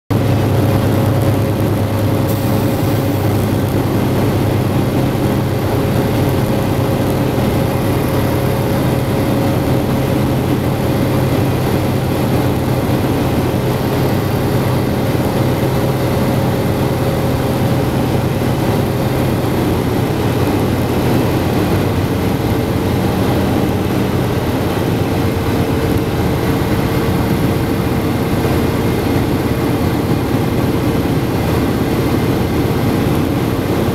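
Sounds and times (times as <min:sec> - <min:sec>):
radial engine droning: 0:00.1 - 0:33.9.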